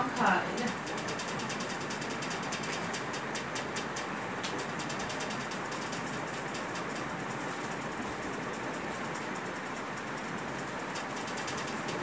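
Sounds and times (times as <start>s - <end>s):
rapid mechanical ticking: 0.0s - 12.0s.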